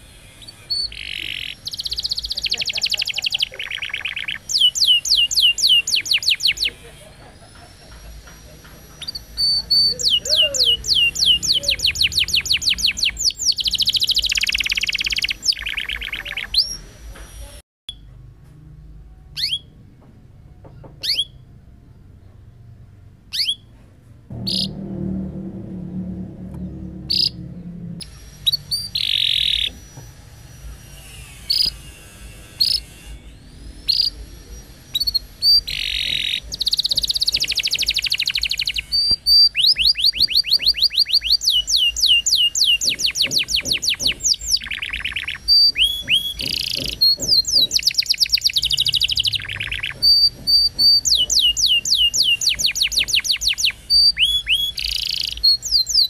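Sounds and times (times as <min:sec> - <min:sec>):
canary singing: 0:00.0 - 0:18.1, 0:19.1 - 0:19.8, 0:20.5 - 0:22.3, 0:23.3 - 0:23.7, 0:24.3 - 0:56.0.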